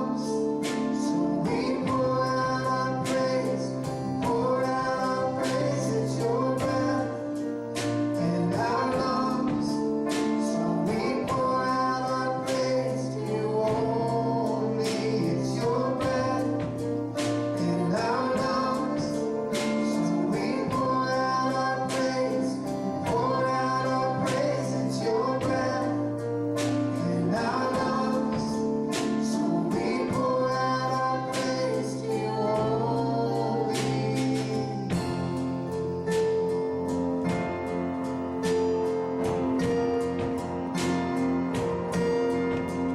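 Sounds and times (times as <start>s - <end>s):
singers with instrumental backing: 0.0s - 42.9s.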